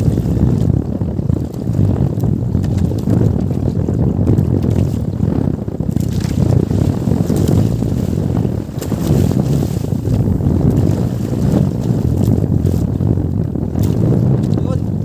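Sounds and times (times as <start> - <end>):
boat engine rumble: 0.0 - 15.0
water rushing past hull: 0.0 - 15.0
wind buffeting microphone: 0.0 - 15.0.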